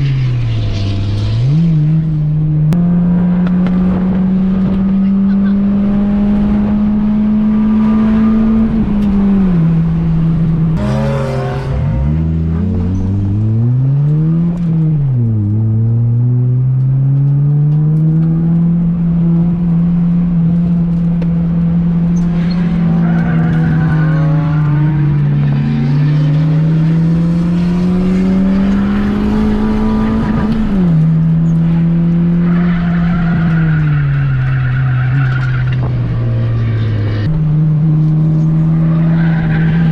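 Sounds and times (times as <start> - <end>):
car engine revving on gear changes: 1.2 - 33.8.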